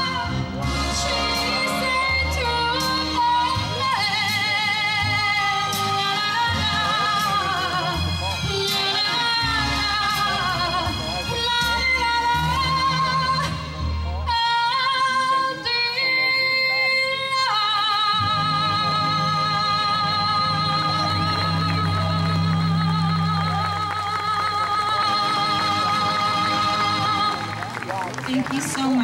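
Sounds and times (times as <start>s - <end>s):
woman singing into microphone: 0.0s - 27.5s
backing music: 0.0s - 29.0s.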